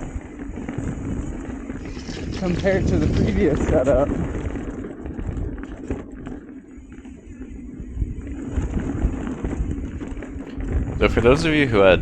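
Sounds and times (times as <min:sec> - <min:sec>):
bike tyres on dirt trail: 0:00.0 - 0:11.4
wind rumble on microphone: 0:00.0 - 0:12.0.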